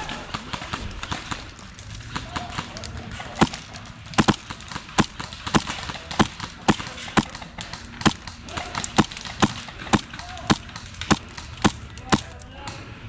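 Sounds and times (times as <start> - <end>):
airsoft gun shots: 0.0 - 12.8.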